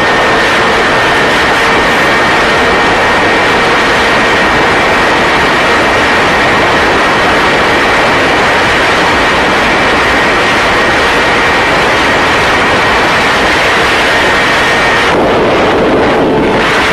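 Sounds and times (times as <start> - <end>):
engine roar: 0.0 - 16.9
high whine: 0.0 - 16.9.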